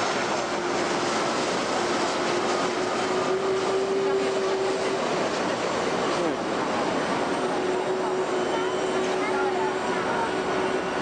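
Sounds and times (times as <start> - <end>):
jet engines on approach: 0.0 - 11.0.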